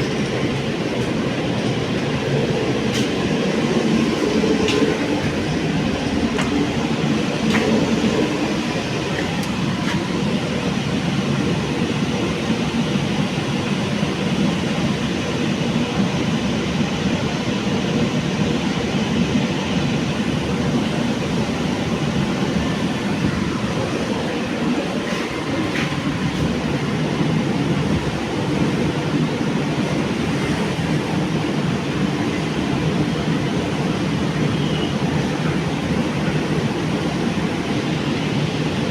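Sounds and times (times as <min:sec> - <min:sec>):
metro train wheels rumbling: 0:00.0 - 0:38.9.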